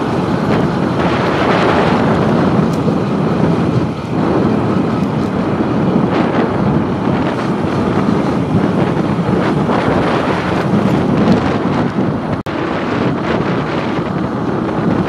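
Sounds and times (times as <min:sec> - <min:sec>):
motorcycle running: 0:00.0 - 0:15.0
wind rushing over microphone: 0:00.0 - 0:15.0.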